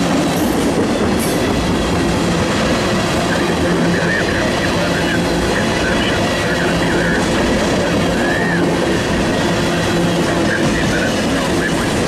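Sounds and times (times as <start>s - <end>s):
steel wheels rumbling on rail: 0.0s - 12.0s.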